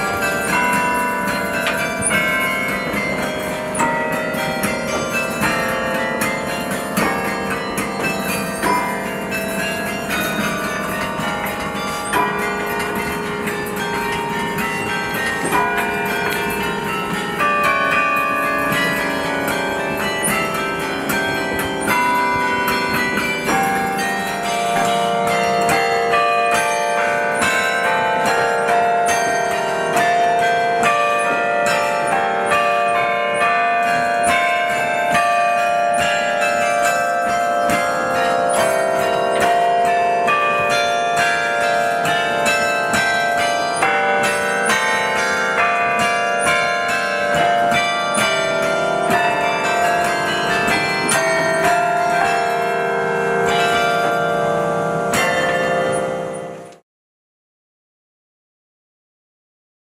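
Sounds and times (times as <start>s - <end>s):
carillon bells playing music: 0.0s - 56.8s.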